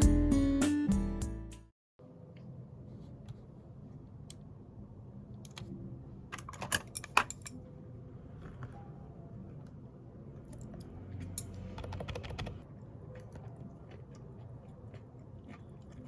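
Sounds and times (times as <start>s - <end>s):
low room hum: 2.0s - 16.0s.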